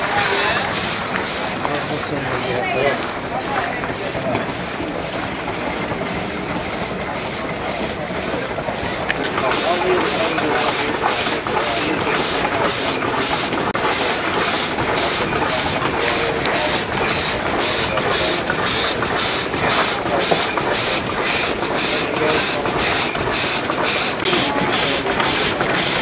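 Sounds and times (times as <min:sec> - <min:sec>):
engine mechanical running: 0:00.0 - 0:26.0
steam engine exhaust puffs: 0:00.0 - 0:26.0.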